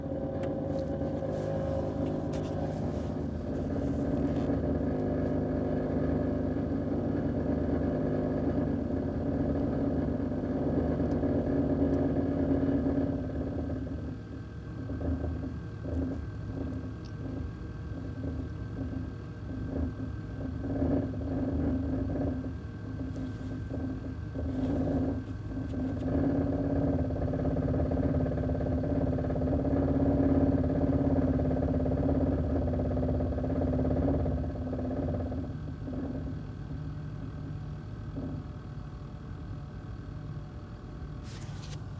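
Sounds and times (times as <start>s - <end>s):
pickup truck engine running: 0.0s - 38.8s.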